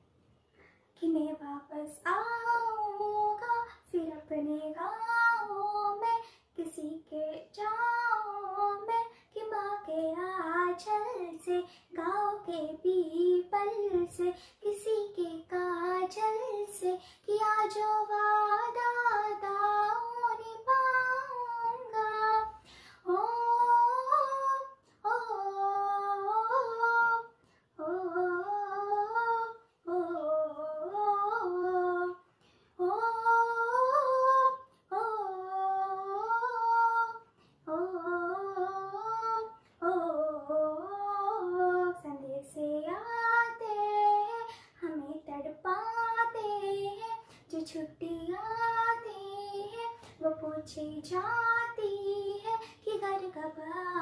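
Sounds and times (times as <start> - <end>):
girl singing unaccompanied: 0.9 - 54.0.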